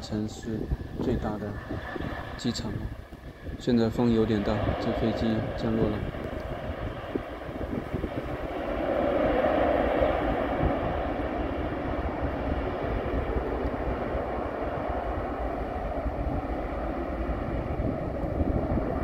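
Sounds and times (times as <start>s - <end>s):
distant jet engines rushing: 0.0s - 19.0s
wind buffeting microphone: 0.0s - 19.0s.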